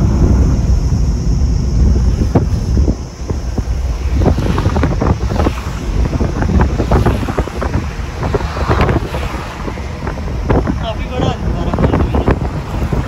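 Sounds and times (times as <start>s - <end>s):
road rumble: 0.0s - 13.0s
wind buffeting microphone: 0.0s - 13.0s.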